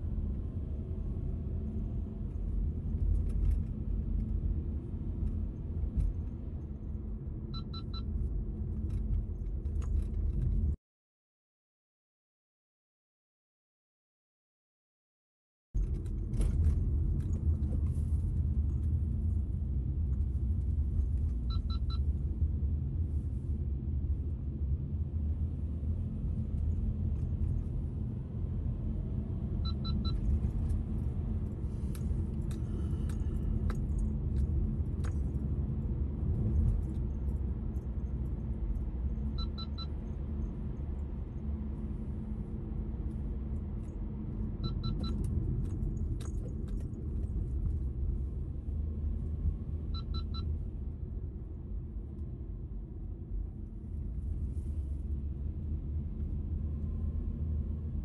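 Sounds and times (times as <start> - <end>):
car road and engine rumble: 0.0 - 10.8, 15.8 - 58.0.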